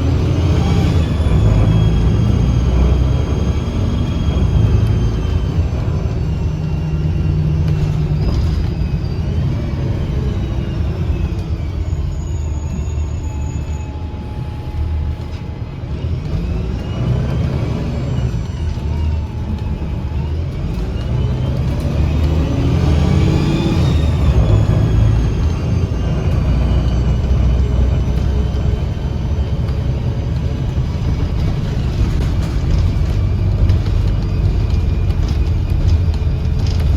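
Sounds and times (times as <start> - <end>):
bus engine rumble: 0.0 - 36.9
sharp whistling: 0.0 - 36.9
transmission whine: 0.0 - 36.9.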